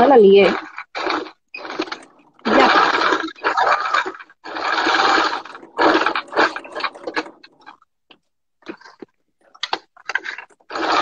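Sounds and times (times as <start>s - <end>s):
sewing machine stitching: 0.0s - 7.8s, 8.7s - 11.0s.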